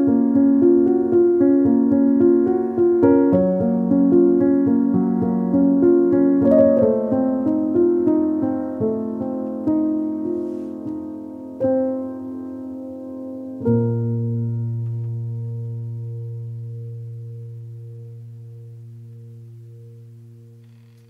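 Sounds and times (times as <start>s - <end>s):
solo piano: 0.0s - 21.0s.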